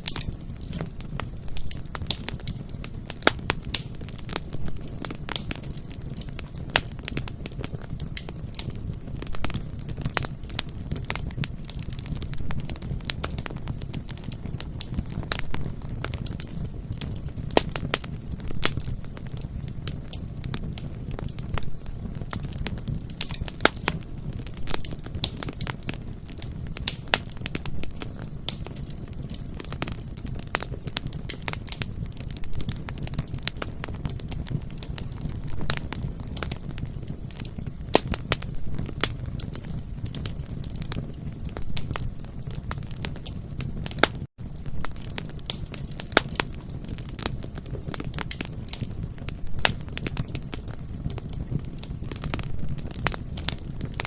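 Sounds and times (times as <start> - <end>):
bonfire crackling and popping: 0.0 - 54.0
low rumble of flames: 0.0 - 54.0.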